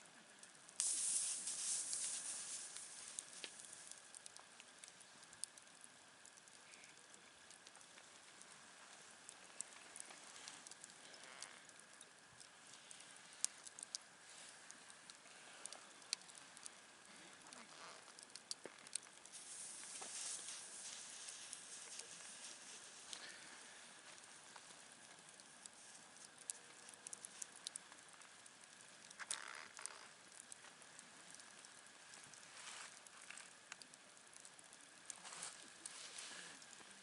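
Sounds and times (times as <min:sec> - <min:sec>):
soft fire hiss: 0:00.0 - 0:37.0
burning wood popping: 0:00.2 - 0:37.0.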